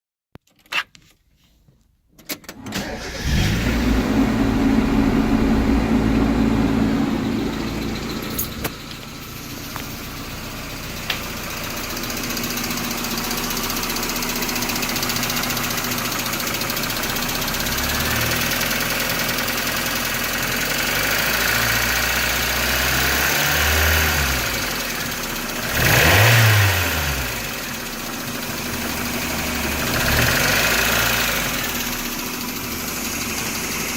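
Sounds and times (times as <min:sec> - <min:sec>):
car engine starting and idling: 0:02.4 - 0:33.9
car engine revving: 0:02.8 - 0:19.5, 0:20.5 - 0:33.9.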